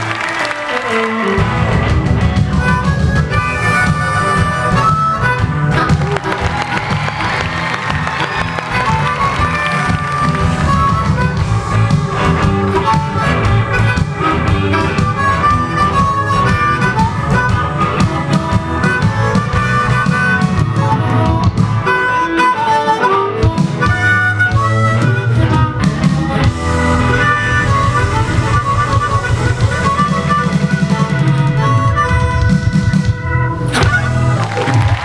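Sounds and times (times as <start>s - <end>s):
harmonica melody: 0.0s - 35.0s
rhythmic band backing: 0.0s - 35.0s.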